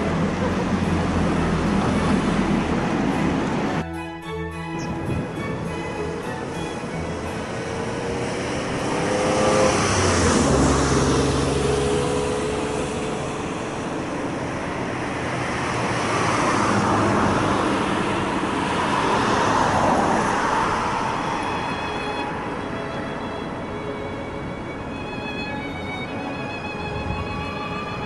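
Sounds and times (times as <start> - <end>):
vehicle passing by: 4.8 - 28.0.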